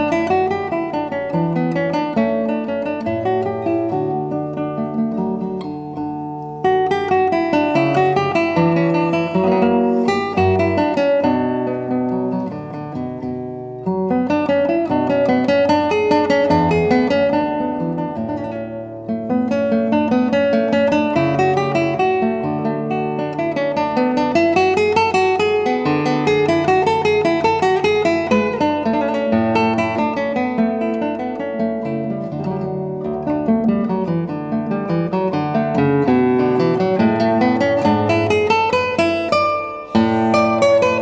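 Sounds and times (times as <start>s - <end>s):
fingerpicked classical guitar: 0.0s - 41.0s.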